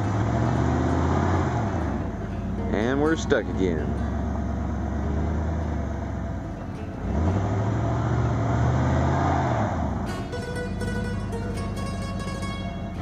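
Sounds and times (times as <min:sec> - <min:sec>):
plucked guitar music: 0:00.0 - 0:09.1, 0:09.9 - 0:13.0
truck engine revving: 0:00.0 - 0:13.0.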